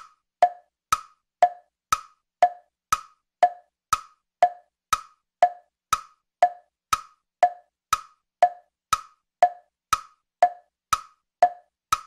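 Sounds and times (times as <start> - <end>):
wood-block tick-tock clicks: 0.0 - 12.0.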